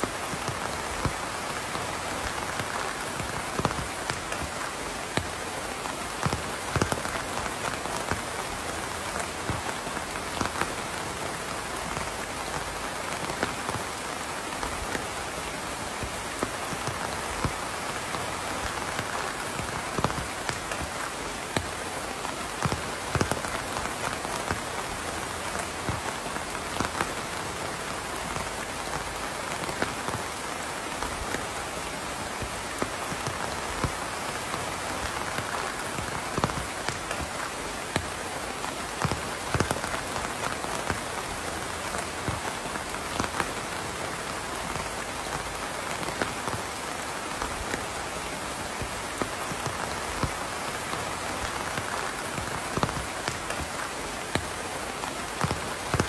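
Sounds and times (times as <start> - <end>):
rain pattering on a surface: 0.0 - 56.0
raindrops tapping close by: 0.0 - 56.0.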